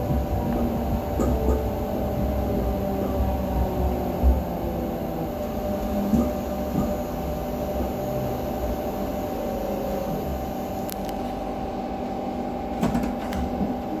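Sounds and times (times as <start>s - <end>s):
train motor hum and rumble: 0.0s - 14.0s.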